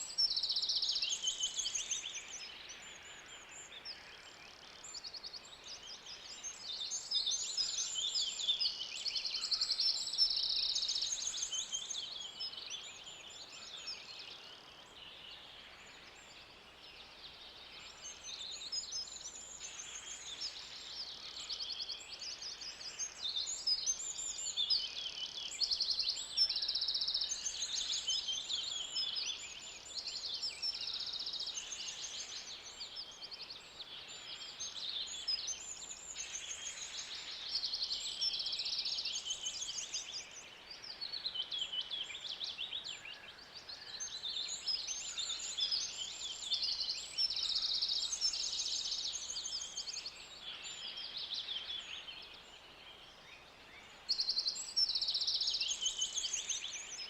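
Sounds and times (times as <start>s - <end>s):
birds chirping and trilling: 0.0s - 57.0s
faint steady hiss: 0.0s - 57.0s.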